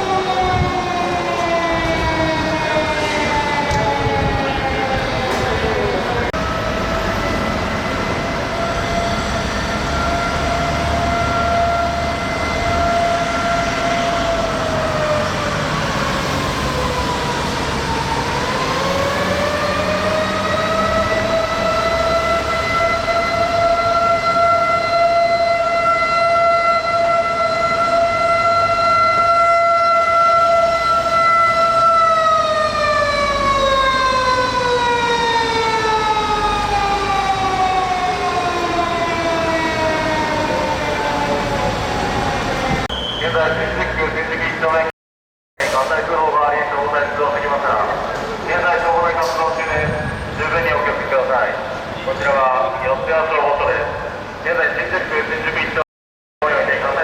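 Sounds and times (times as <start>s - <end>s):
fire engine siren: 0.0s - 44.9s, 45.6s - 55.8s, 56.4s - 57.0s.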